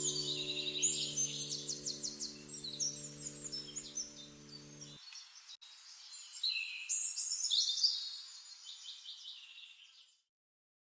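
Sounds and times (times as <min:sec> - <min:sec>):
birds singing: 0:00.0 - 0:10.2.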